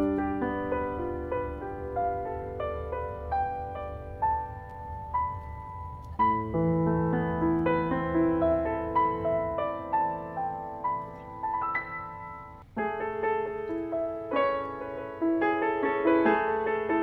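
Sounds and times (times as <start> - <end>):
calm piano music: 0.0 - 17.0.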